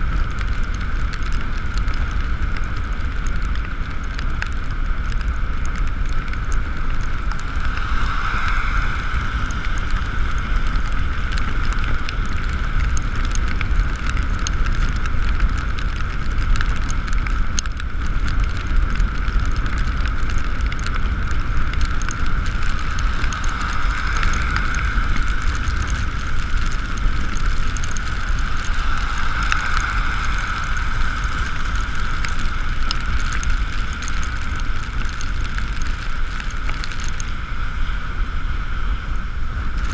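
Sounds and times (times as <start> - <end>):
wet road hiss: 0.0 - 39.9
wind rumble on microphone: 0.0 - 39.9.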